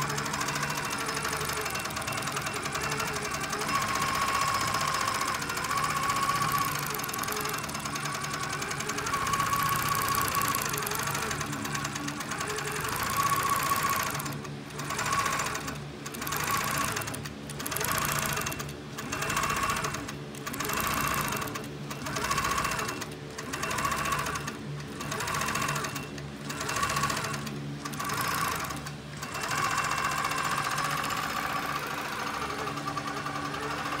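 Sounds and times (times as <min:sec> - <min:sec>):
quilting machine motor hum: 0:00.0 - 0:34.0.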